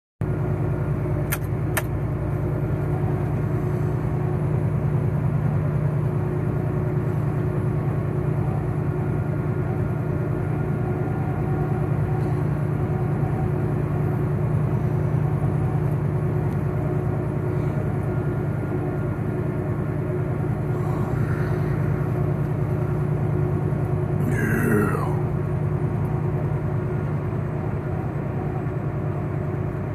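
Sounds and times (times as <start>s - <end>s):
truck engine hum: 0.2s - 29.9s.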